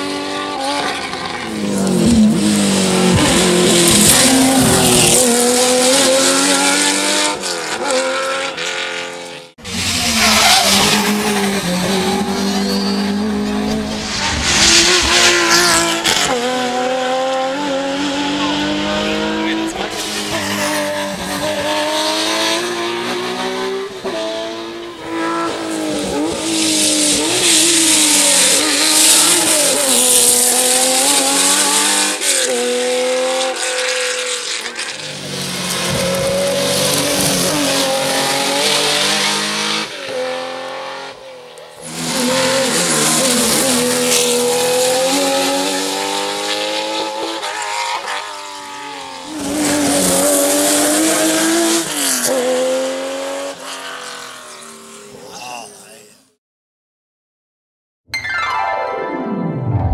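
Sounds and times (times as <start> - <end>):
rally car engines revving hard: 0.0 - 56.0.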